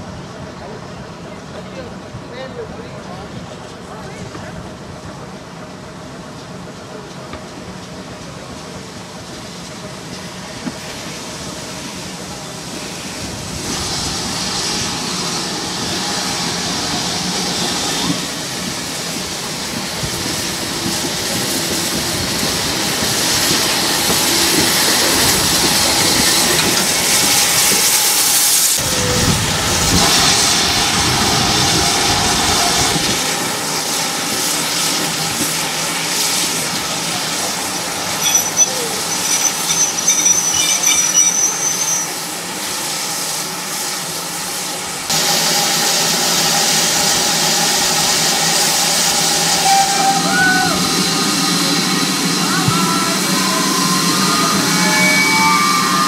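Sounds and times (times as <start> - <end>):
train wheels running: 1.5 - 56.0
steam hiss: 9.3 - 56.0.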